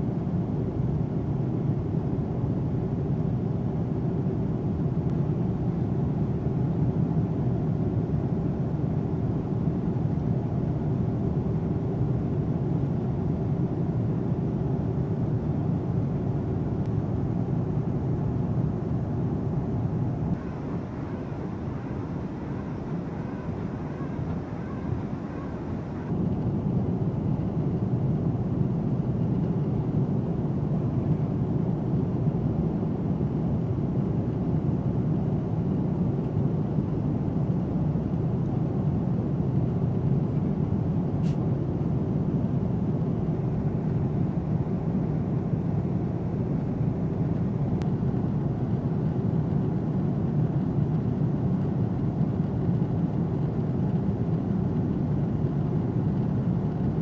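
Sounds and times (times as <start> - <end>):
aircraft cabin drone: 0.0 - 57.0.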